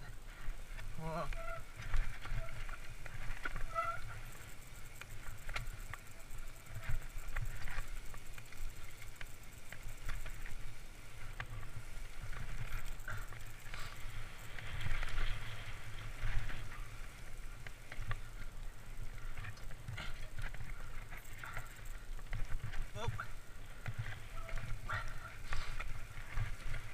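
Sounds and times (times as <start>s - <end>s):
bike clicks and rattles: 0.0s - 26.9s
tyres crackling on dirt trail: 0.0s - 26.9s
wind rumbling on microphone: 0.0s - 26.9s.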